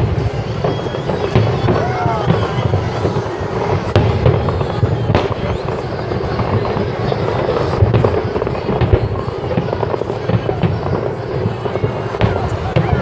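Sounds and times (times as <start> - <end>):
firework crackling: 0.0 - 13.0
firework shells bursting: 0.0 - 13.0.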